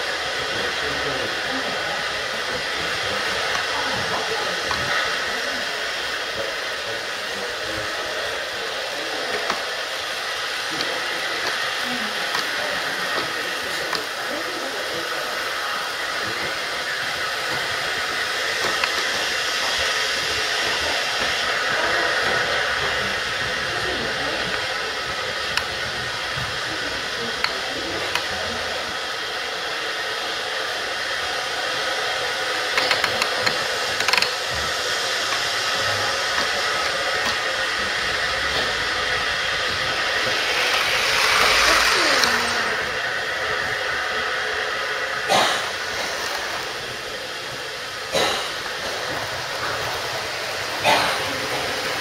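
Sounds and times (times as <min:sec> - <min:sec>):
falling whine: 0:00.0 - 0:52.0
model trains running: 0:00.0 - 0:52.0.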